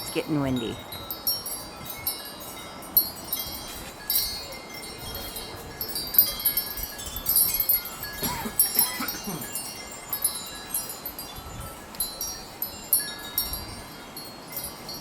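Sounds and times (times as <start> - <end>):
wind chimes jangling: 0.0 - 15.0.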